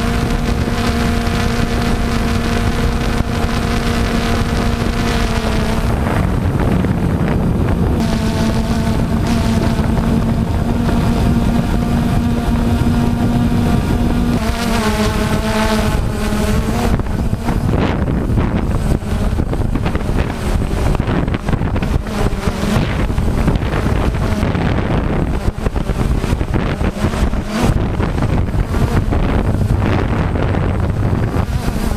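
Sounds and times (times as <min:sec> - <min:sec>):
drone motors whining: 0:00.0 - 0:31.9
wind buffeting microphone: 0:00.0 - 0:31.9.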